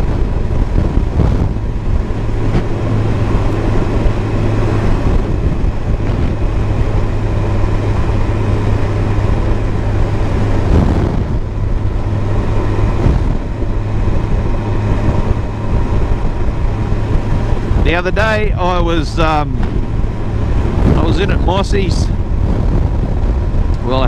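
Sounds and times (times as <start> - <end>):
motorcycle engine drone: 0.0 - 24.0
wind rush over microphone: 0.0 - 24.0.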